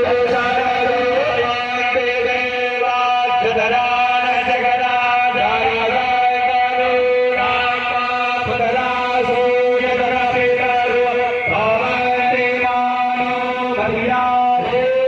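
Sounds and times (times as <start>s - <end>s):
mantra chanting in droning notes: 0.0s - 15.0s.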